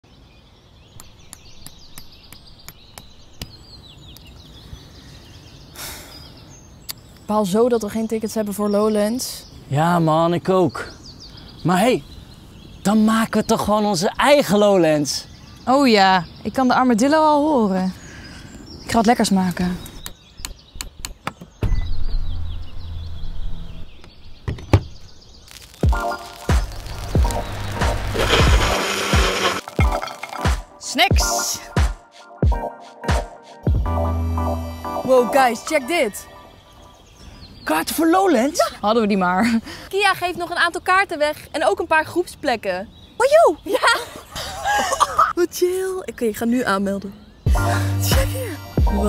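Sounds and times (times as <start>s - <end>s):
birds chirping and twittering: 0.0s - 49.0s.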